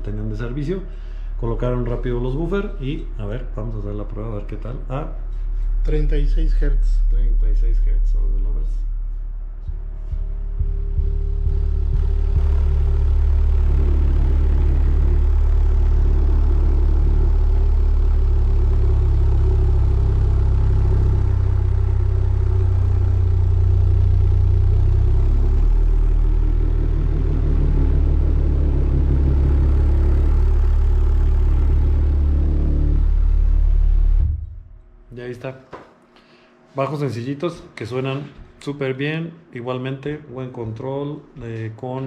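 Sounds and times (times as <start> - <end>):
deep subwoofer test tone: 0.0 - 35.4.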